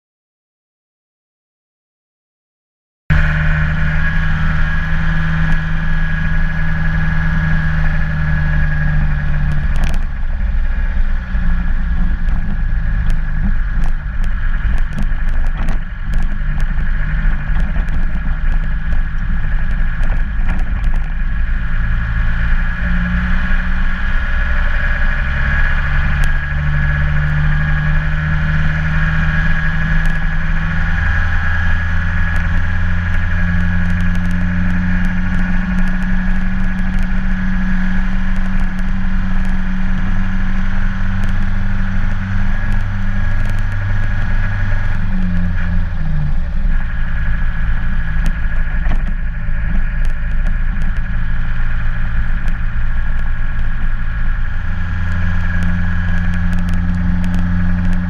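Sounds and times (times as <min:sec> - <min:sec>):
car engine running: 0:03.1 - 0:58.0
gravel stones rattling under tyres: 0:05.0 - 0:58.0.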